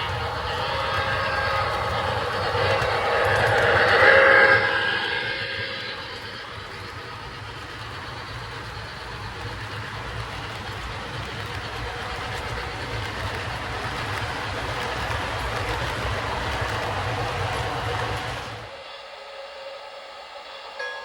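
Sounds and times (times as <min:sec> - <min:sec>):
model train rumbling on track: 0:00.0 - 0:21.0.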